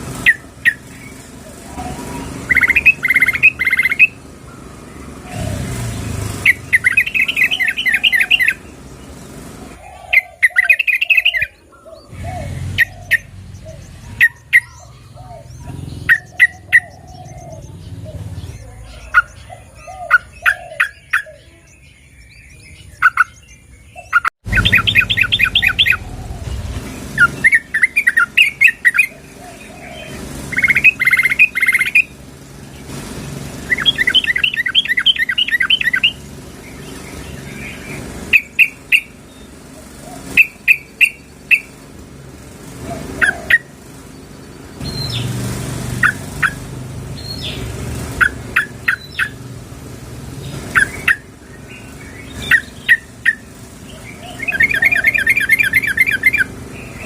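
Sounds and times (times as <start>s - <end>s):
bird sharp chirps: 0.1s - 4.7s, 5.3s - 41.9s, 43.0s - 49.4s, 50.4s - 57.0s.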